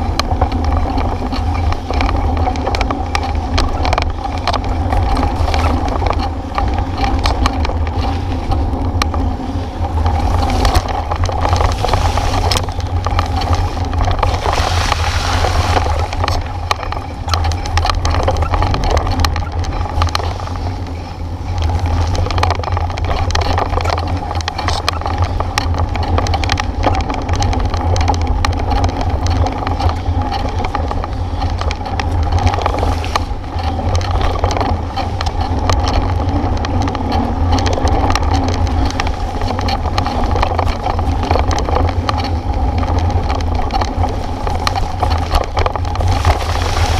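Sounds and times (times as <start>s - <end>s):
bike rattling and knocking: 0.0s - 46.9s
wind and road noise: 0.0s - 46.9s.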